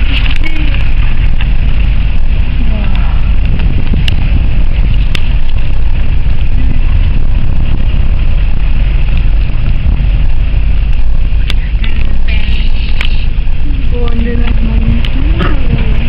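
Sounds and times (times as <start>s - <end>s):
vehicle driving heard from inside: 0.0s - 16.0s.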